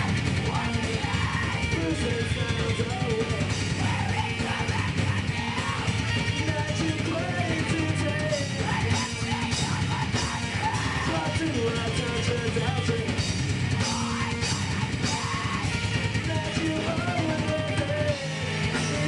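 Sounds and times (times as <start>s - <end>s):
drum kit beat: 0.0s - 19.0s
electric guitars: 0.0s - 19.0s.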